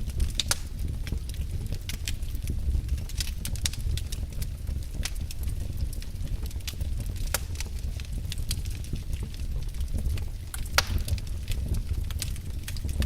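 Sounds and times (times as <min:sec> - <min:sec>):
logs crackling and popping: 0:00.0 - 0:13.0
low roar of flames: 0:00.0 - 0:13.0.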